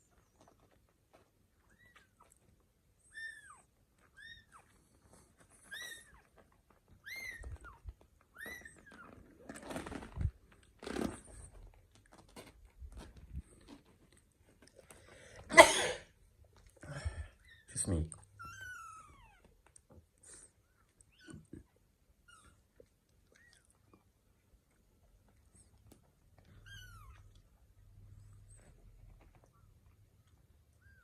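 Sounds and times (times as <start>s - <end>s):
rustling: 0.0s - 15.5s, 16.1s - 31.0s.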